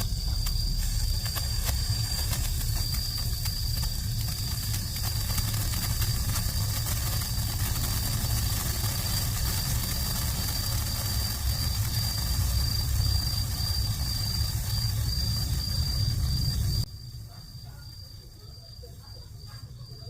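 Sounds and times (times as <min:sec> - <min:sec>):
low rumble: 0:00.0 - 0:17.2
sparkler crackling: 0:00.0 - 0:20.0.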